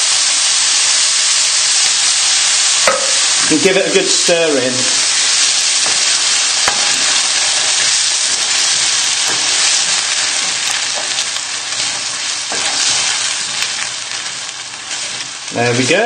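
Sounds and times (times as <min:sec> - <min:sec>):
tomatoes sizzling in a frying pan: 0:00.0 - 0:16.0.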